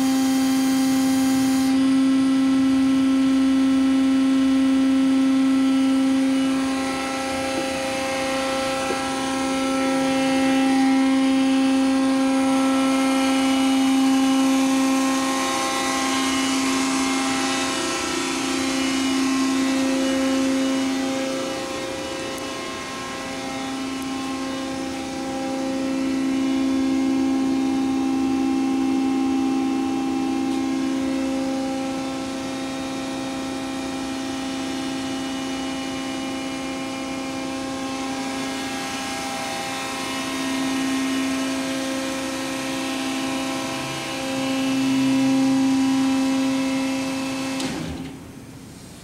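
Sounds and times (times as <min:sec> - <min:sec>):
hydraulic power unit whining hum: 0:00.0 - 0:49.0.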